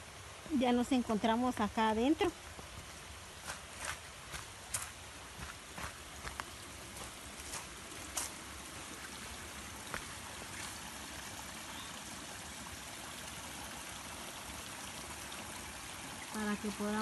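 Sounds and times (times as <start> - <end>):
stream trickling over rocks: 0.0 - 17.0.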